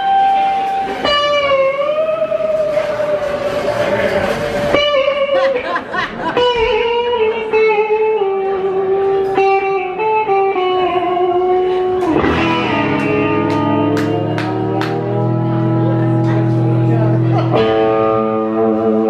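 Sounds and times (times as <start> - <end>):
amplified electric guitars: 0.0 - 19.0.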